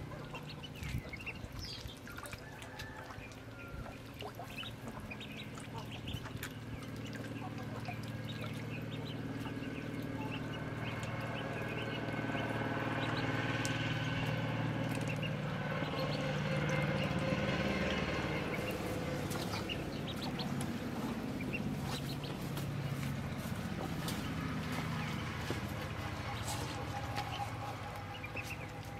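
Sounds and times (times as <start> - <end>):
ducklings peeping: 0.0 - 28.9
low engine hum: 0.0 - 28.9.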